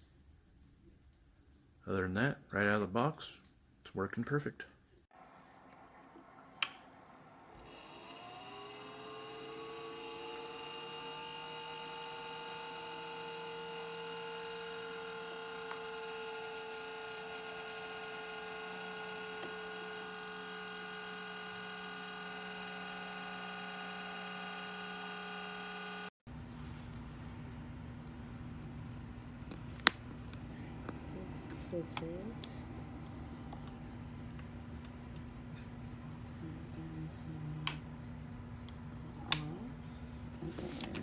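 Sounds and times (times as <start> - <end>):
small electric motor humming: 7.5 - 41.0.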